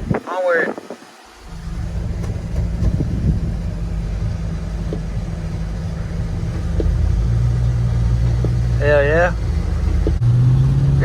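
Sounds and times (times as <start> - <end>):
pickup engine and road noise: 0.0 - 11.0.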